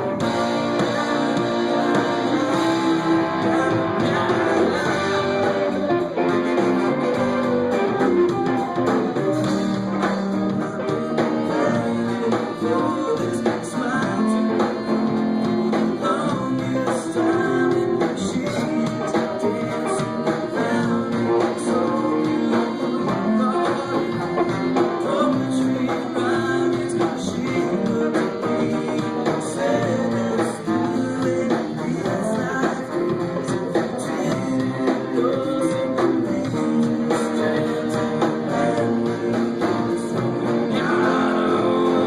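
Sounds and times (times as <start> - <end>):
guitar: 0.0 - 42.0
live band playing: 0.0 - 42.0.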